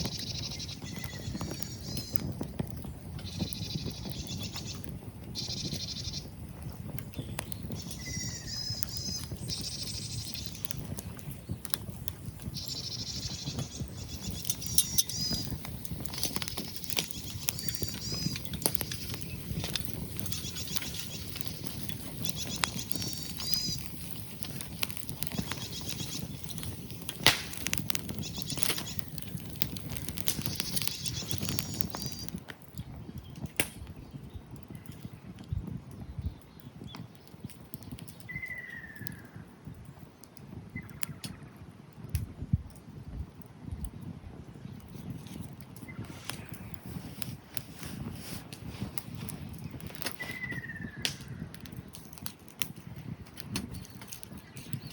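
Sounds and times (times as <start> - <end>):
small birds chirping: 0.0 - 39.5, 40.2 - 41.6, 43.6 - 54.9
wood fire crackling and popping: 0.0 - 54.9.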